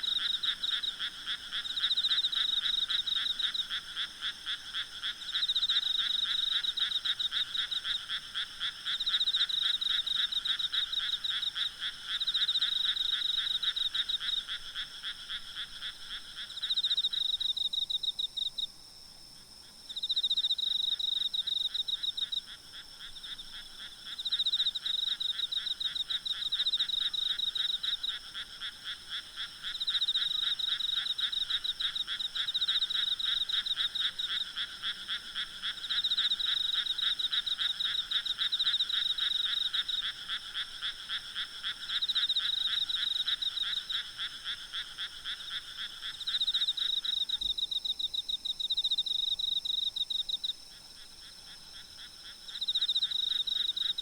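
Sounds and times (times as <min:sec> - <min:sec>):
frogs trilling: 0:00.0 - 0:18.6, 0:20.0 - 0:54.0
night insects droning: 0:00.0 - 0:54.0.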